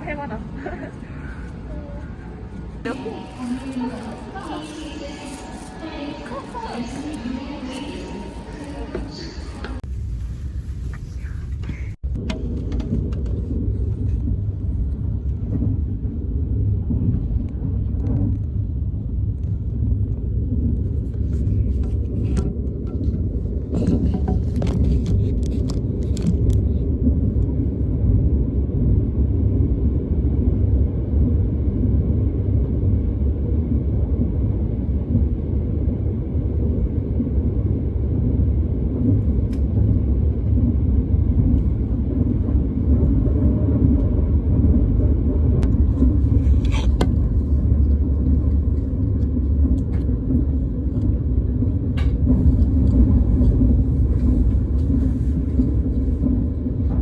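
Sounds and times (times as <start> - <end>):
train rumble from inside car: 0.0 - 57.0.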